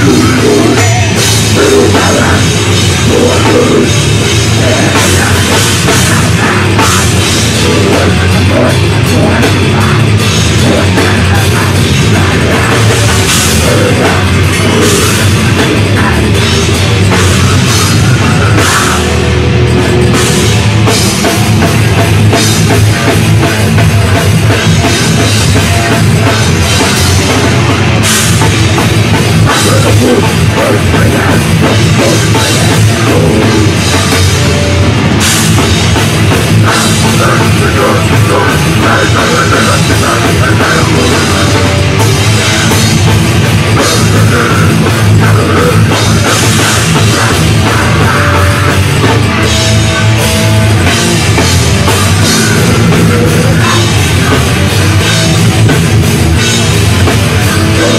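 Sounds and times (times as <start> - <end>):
heavy metal band playing: 0.0 - 57.9.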